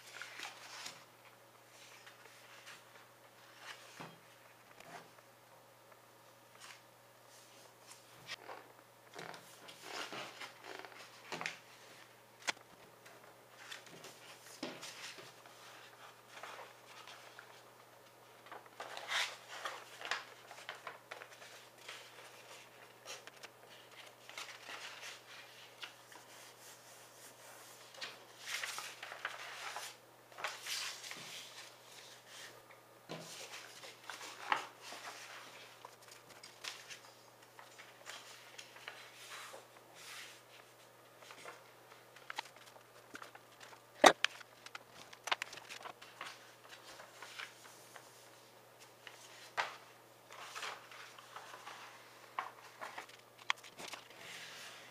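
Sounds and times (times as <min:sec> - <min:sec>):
paper rustling and crinkling: 0:00.0 - 0:05.2, 0:06.6 - 0:54.9.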